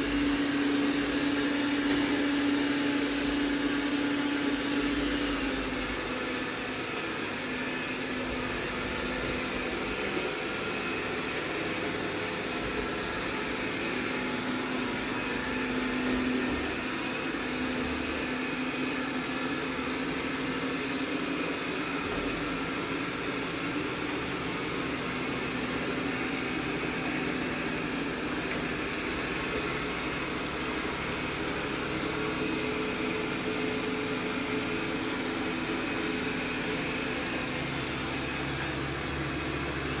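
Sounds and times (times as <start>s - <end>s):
robot vacuum running: 0.0s - 40.0s.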